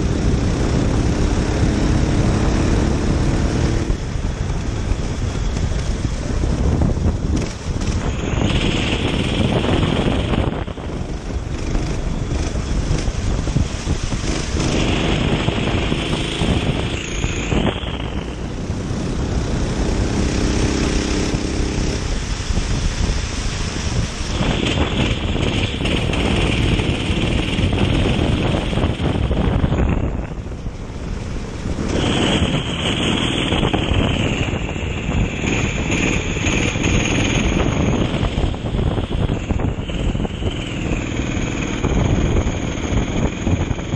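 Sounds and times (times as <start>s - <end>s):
kart engine running: 0.0s - 22.3s, 23.6s - 43.9s
wind buffeting microphone: 0.0s - 43.9s.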